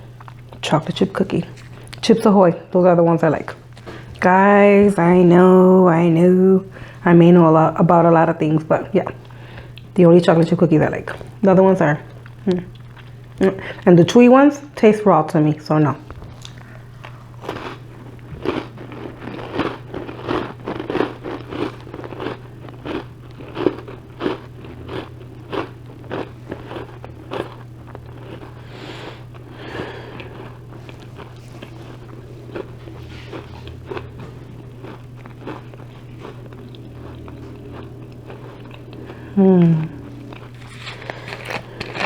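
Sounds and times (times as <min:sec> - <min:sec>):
cookie crunching and chewing: 0:00.0 - 0:02.1, 0:07.8 - 0:14.2, 0:16.1 - 0:42.0.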